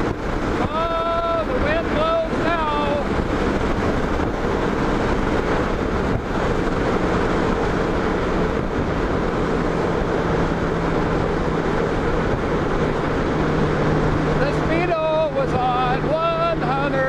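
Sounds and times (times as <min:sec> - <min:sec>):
motorcycle engine drone: 0:00.0 - 0:17.0
wind rushing across microphone: 0:00.0 - 0:17.0.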